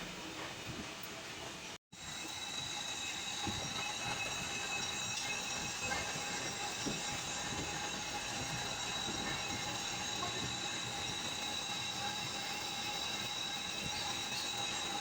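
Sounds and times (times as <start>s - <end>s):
high-pitched machine whine: 2.0s - 15.0s
machine humming: 2.0s - 15.0s.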